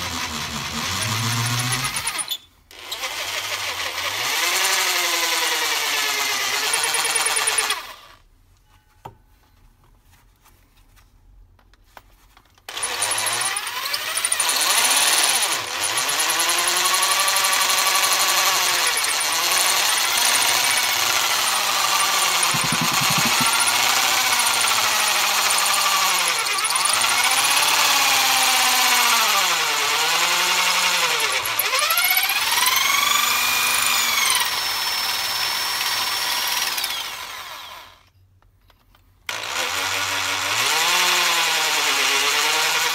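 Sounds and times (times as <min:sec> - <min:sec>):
electric drill drilling into stone: 0:00.0 - 0:08.1, 0:12.7 - 0:38.1, 0:39.3 - 0:42.9.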